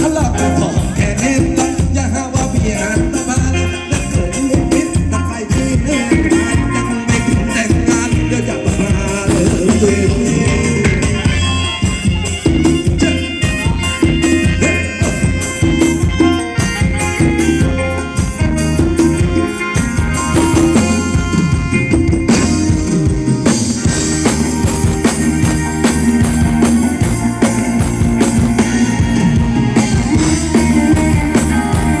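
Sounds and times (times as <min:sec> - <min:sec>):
drum kit beat: 0:00.0 - 0:32.0
live band music: 0:00.0 - 0:32.0.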